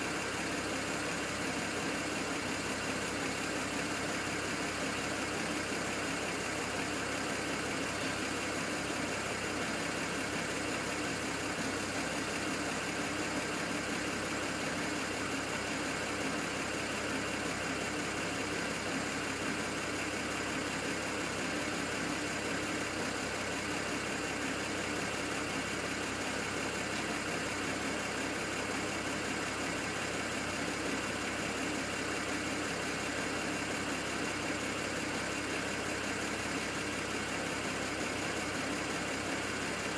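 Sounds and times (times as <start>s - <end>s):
car engine idling with misfires: 0.0s - 39.9s.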